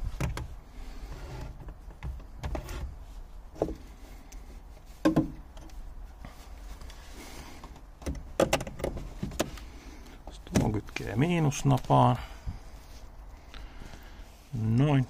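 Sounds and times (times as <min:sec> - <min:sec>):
light knocks and rustles: 0:00.0 - 0:13.1.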